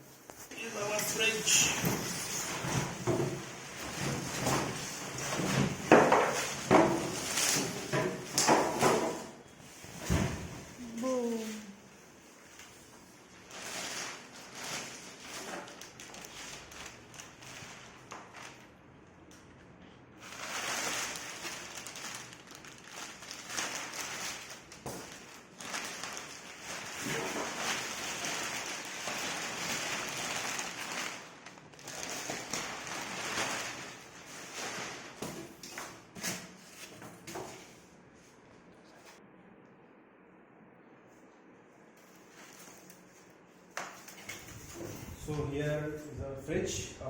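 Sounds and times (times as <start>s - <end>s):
plastic wrap rustling and crinkling: 0.0s - 39.2s, 41.1s - 45.4s.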